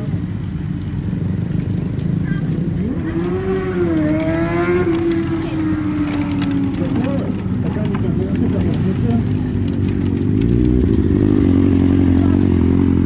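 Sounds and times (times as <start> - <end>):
motorcycle engine revving: 0.0 - 13.0
motorcycle engines idling: 0.0 - 13.0.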